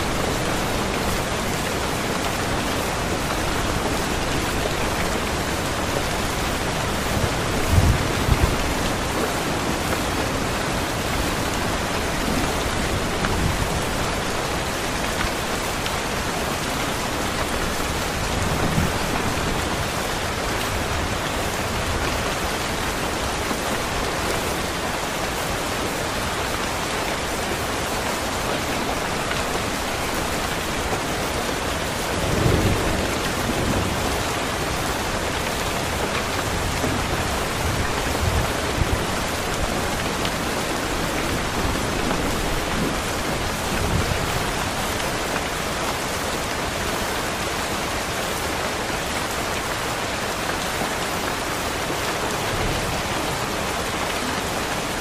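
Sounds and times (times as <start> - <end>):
steady rain pouring: 0.0 - 55.0.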